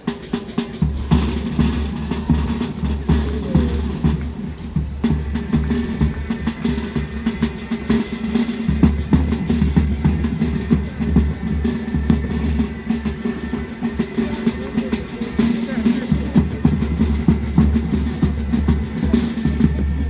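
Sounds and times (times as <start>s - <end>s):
bass and snare drums: 0.0s - 20.0s
military band playing: 0.0s - 20.0s.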